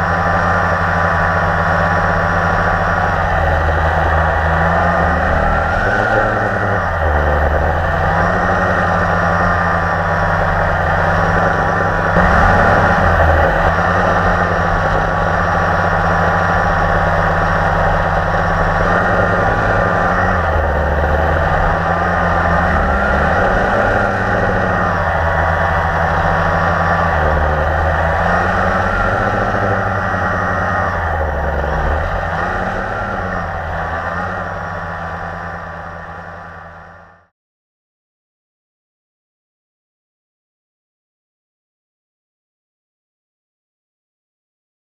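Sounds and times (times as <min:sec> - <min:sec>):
quadcopter motors humming: 0:00.0 - 0:37.2.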